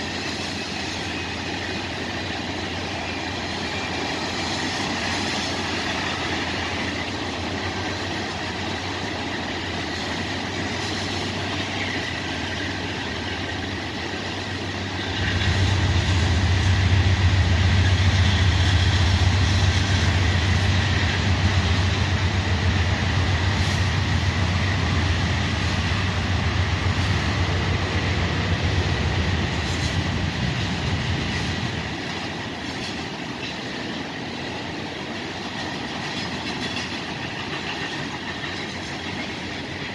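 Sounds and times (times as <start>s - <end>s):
diesel locomotive hum: 0.0s - 39.9s
train wheels rumbling on rails: 0.0s - 39.9s.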